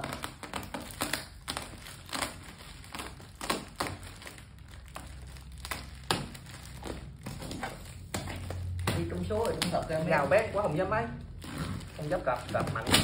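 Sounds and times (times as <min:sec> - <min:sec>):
plastic and tape crinkling tearing: 0:00.0 - 0:13.0.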